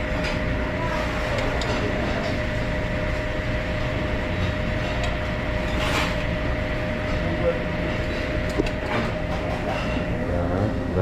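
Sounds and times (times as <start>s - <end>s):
constant hum: 0.0s - 11.0s.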